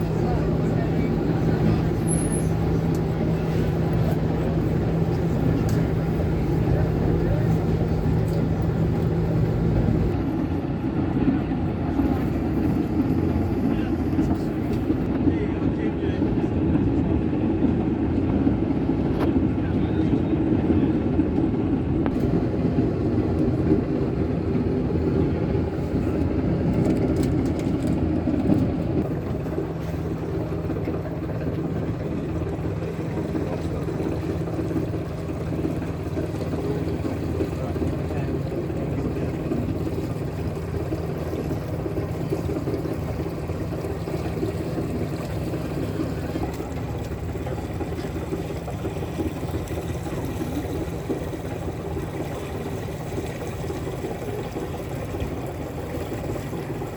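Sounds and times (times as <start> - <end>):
boat motor humming: 0.0 - 56.9
water rushing along hull: 0.0 - 56.9.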